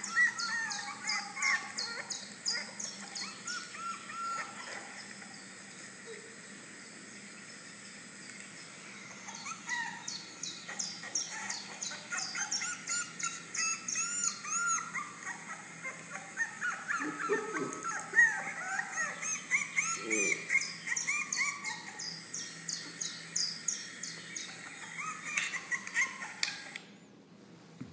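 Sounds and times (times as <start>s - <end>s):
puppies squealing and yelping: 0.0s - 6.2s, 8.9s - 26.8s.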